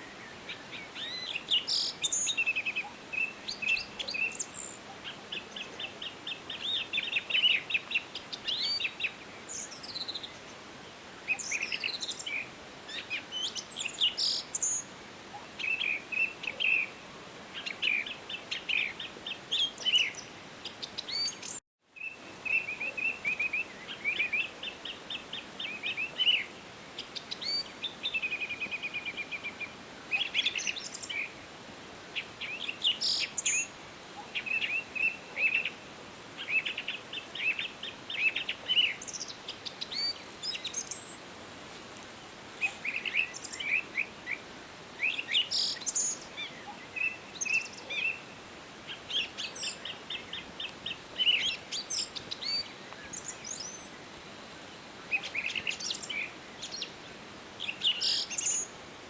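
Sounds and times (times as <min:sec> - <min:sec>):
soft steady hiss: 0:00.0 - 0:59.0
songbirds chirping and trilling: 0:00.0 - 0:59.0.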